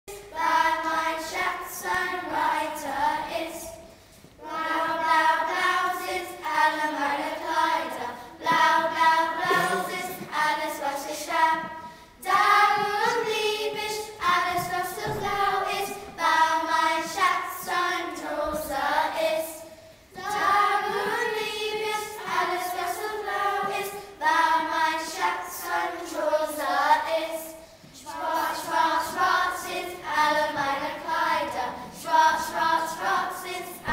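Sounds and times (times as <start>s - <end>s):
children's choir singing: 0.1s - 33.9s.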